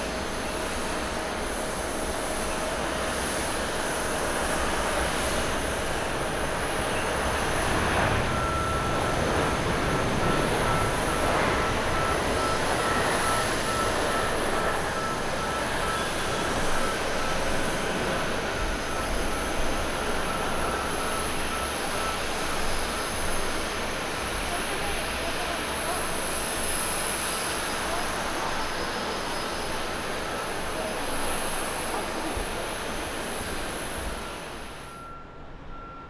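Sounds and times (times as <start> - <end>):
jet engines rumbling: 0.0 - 36.0
steady engine whine: 0.0 - 36.0.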